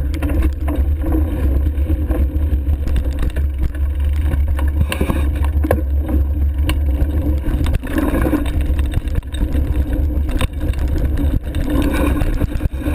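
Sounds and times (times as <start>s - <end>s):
bike knocks and rattles: 0.0s - 12.9s
wind and tyre rumble: 0.0s - 12.9s.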